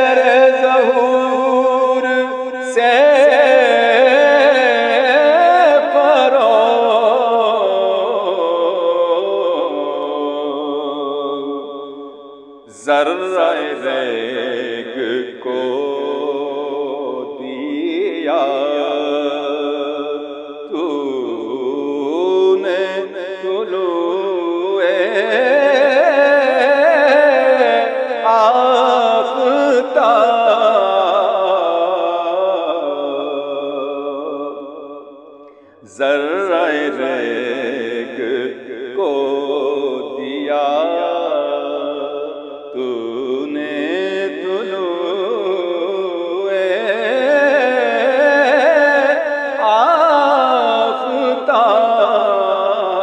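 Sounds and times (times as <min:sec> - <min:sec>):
man singing chant-like verse: 0:00.0 - 0:53.0.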